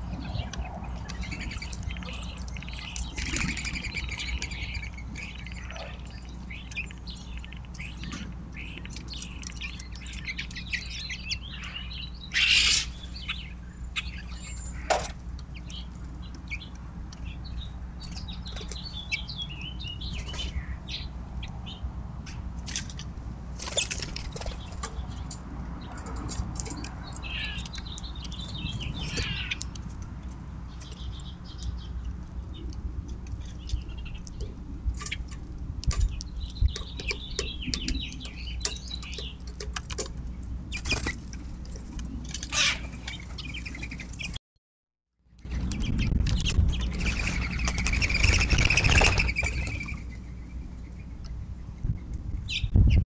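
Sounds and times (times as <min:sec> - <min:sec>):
songbirds chirping: 0:00.0 - 0:44.4, 0:45.3 - 0:53.0.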